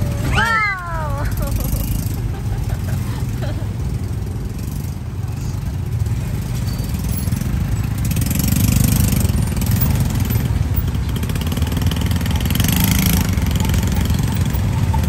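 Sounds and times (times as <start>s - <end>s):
engines rumbling in traffic: 0.0s - 15.0s.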